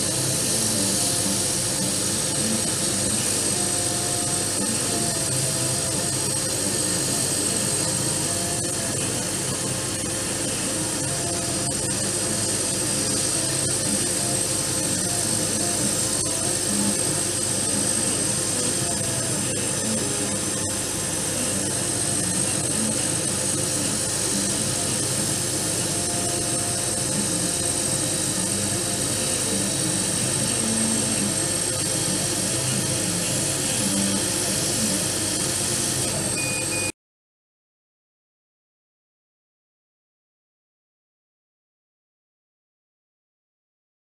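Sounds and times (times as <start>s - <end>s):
laser cutter whirring: 0.0s - 37.0s.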